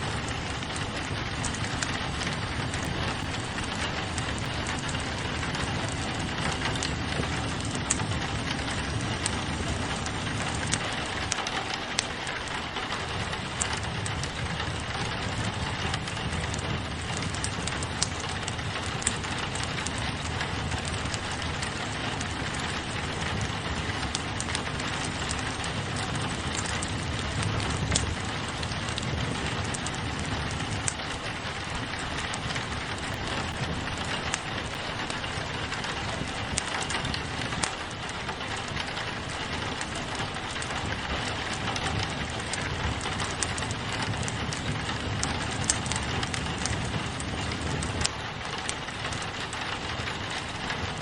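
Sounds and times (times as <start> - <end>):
rain on a window: 0.0 - 51.0
wood fire crackling: 0.0 - 51.0
sharp clicks and pops: 0.1 - 51.0.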